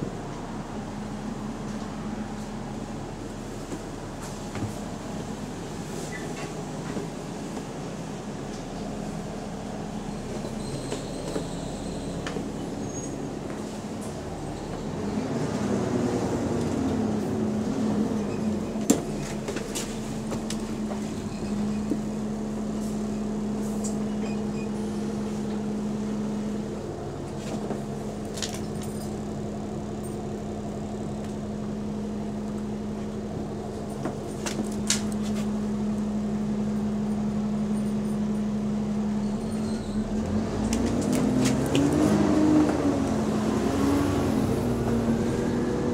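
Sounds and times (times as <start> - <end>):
bus engine humming and revving: 0.0 - 45.9.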